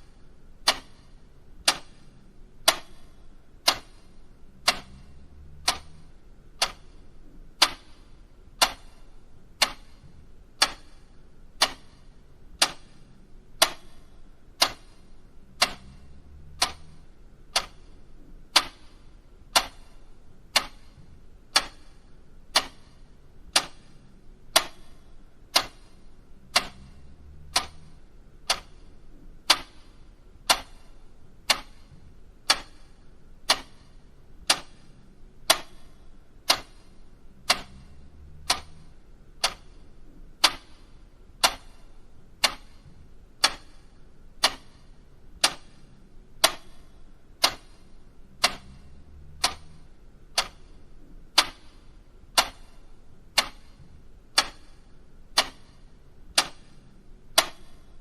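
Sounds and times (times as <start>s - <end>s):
mechanical clock ticking: 0.0s - 58.0s.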